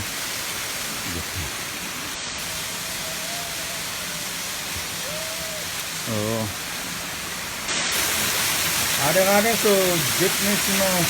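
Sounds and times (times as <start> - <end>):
water pouring over spillway: 0.0 - 11.0.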